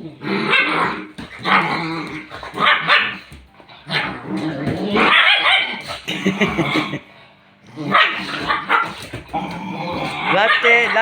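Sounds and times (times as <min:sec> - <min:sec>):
dogs growling and barking: 0:00.0 - 0:11.0.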